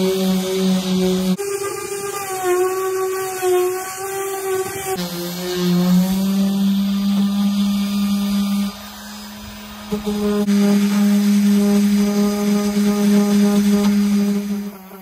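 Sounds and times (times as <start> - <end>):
orbital sander sanding wood: 0.0 - 15.0.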